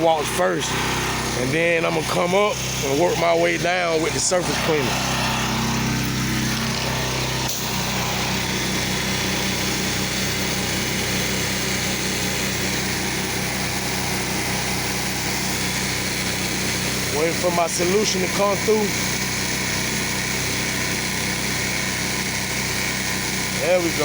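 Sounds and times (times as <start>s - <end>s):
small gasoline engine running: 0.0s - 24.0s.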